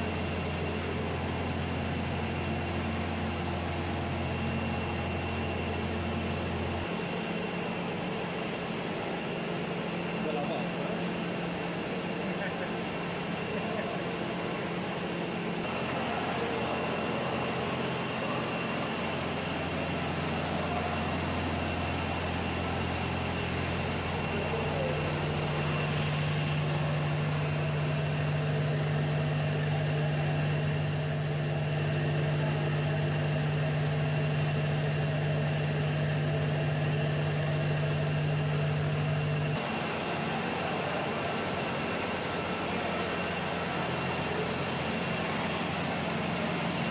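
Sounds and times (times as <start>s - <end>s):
machinery drone with whine: 0.0s - 46.9s.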